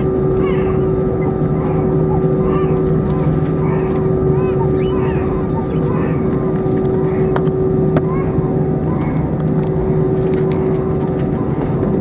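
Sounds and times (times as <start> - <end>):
aircraft engine rumble: 0.0 - 12.0
constant hum: 0.0 - 12.0.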